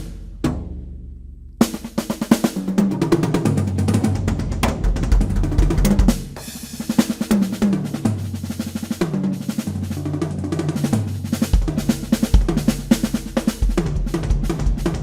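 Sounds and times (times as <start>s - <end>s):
bass drum and snare hits: 0.0s - 9.9s, 10.8s - 15.0s.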